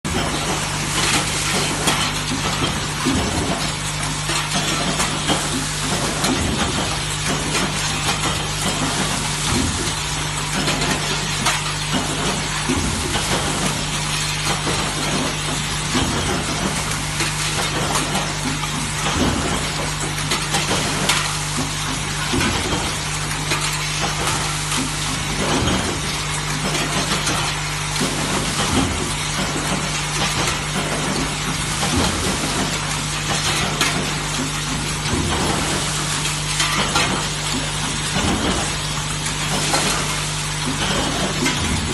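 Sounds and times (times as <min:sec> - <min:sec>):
welding machine hum: 0:00.1 - 0:41.9.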